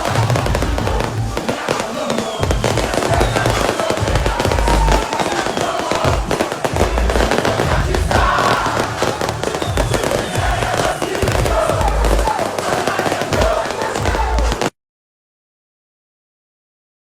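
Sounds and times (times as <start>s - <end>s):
live concert music with bass beat: 0.0s - 14.7s
fireworks crackling: 0.0s - 14.8s.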